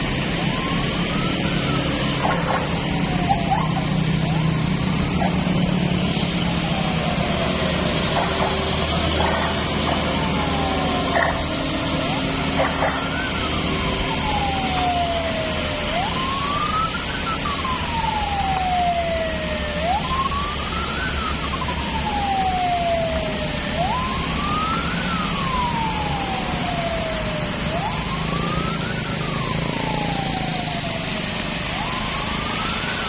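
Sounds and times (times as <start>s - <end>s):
emergency siren wailing: 0.0s - 33.0s
road traffic rumble: 0.0s - 33.0s.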